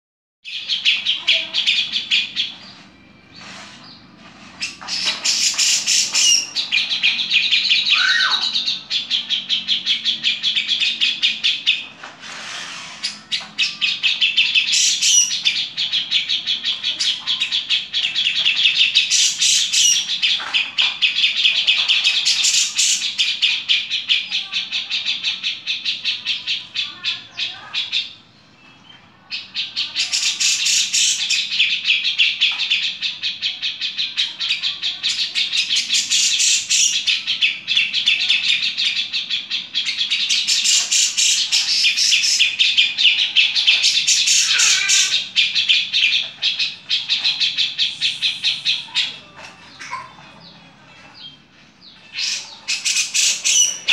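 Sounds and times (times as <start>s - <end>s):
bird harsh scratchy song: 0.5s - 53.9s.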